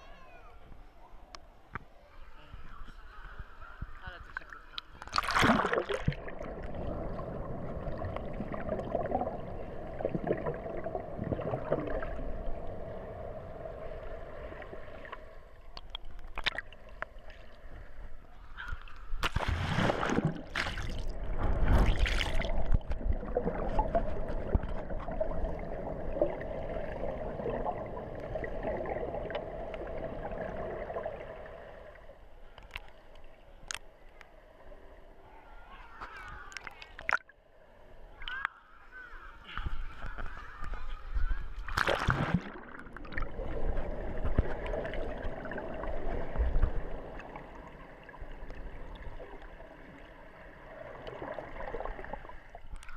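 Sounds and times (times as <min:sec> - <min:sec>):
pool water sloshing and gurgling: 0:00.0 - 0:33.8, 0:34.7 - 0:52.9
water splashes: 0:02.4 - 0:33.9, 0:35.8 - 0:37.4, 0:39.4 - 0:52.9.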